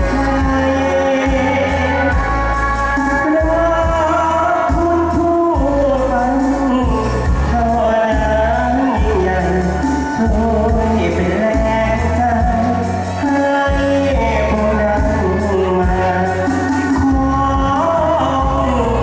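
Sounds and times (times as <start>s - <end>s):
amplified band music: 0.0s - 19.0s
man singing through a pa: 0.0s - 19.0s.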